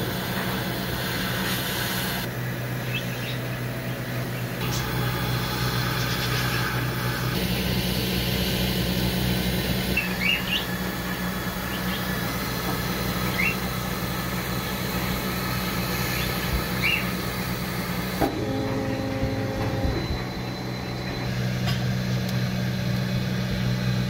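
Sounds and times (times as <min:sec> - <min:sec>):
deeper hum tone: 0:00.0 - 0:24.0
laser cutter fan and motor hum: 0:00.0 - 0:24.0.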